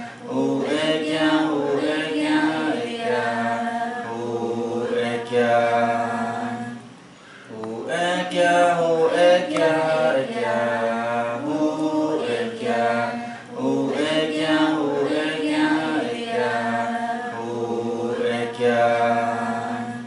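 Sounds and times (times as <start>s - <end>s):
unaccompanied chant: 0.0s - 20.0s.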